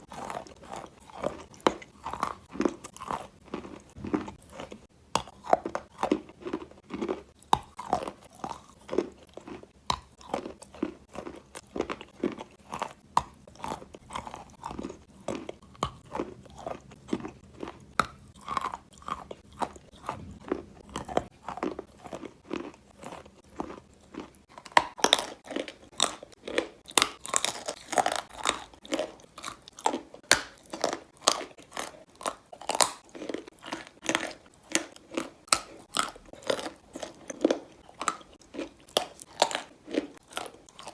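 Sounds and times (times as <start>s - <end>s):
chewing chalk crunches: 0.0s - 40.9s.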